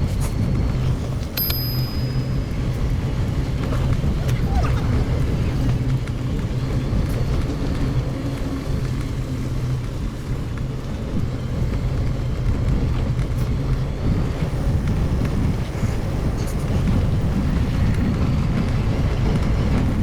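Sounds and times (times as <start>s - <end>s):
wind: 0.0s - 20.0s
bike tyres rumbling on gravel: 2.4s - 20.0s.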